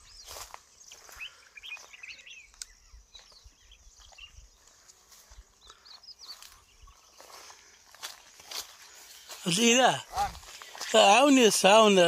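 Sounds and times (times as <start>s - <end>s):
small birds twittering: 0.0s - 12.0s.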